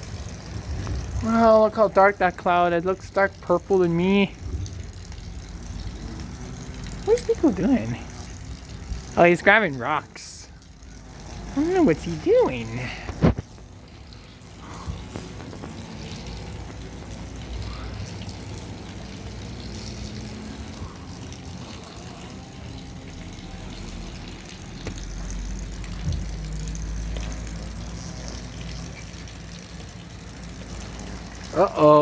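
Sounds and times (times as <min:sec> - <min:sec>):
light rain falling: 0:00.0 - 0:32.0.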